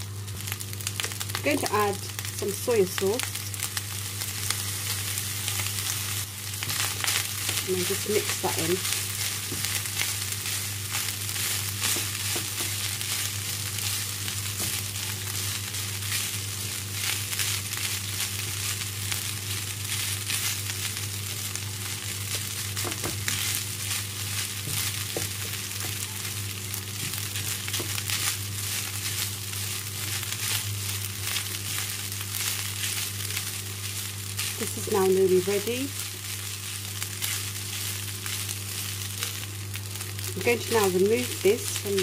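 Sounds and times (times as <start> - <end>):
rice sizzling in a pan: 0.0 - 42.0.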